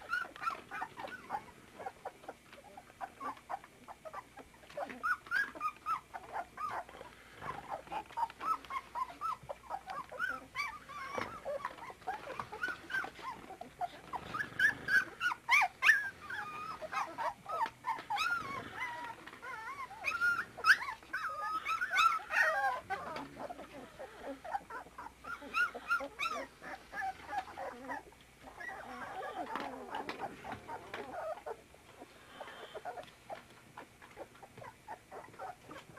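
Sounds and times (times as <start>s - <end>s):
puppies whimpering and yelping: 0.0s - 35.9s.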